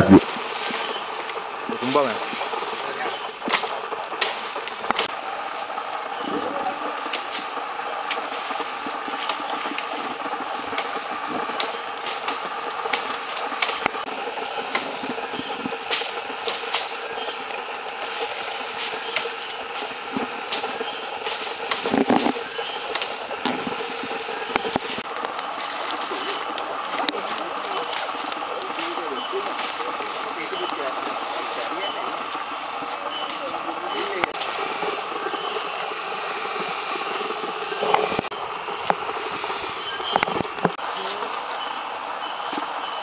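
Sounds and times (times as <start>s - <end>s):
steady drone: 0.0s - 43.0s
twigs and leaves crackling: 0.0s - 43.0s.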